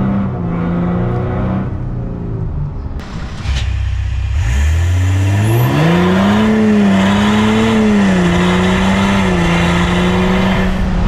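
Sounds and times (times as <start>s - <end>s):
diesel engine accelerating: 0.0s - 11.0s.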